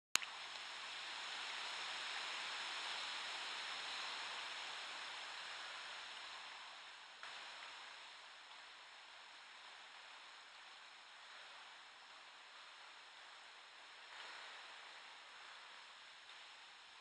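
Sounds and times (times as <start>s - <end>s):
river water running over stones: 0.2s - 17.0s.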